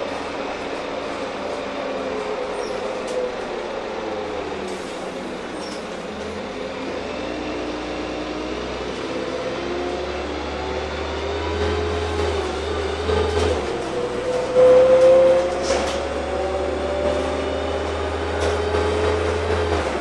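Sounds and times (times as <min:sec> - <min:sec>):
bus engine droning: 0:00.0 - 0:20.0.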